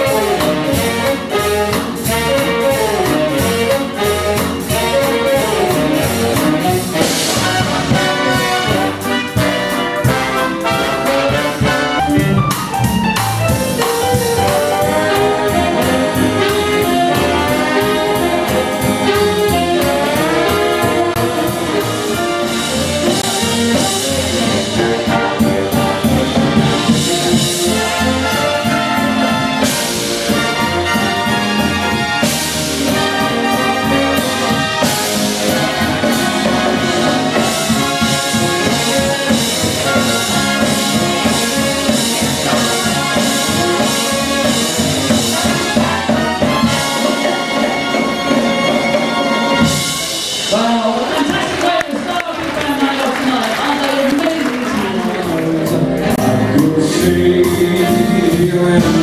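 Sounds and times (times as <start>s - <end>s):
saxophones: 0.0s - 50.8s
brass section playing: 0.0s - 59.0s
steady drum beat: 0.0s - 59.0s.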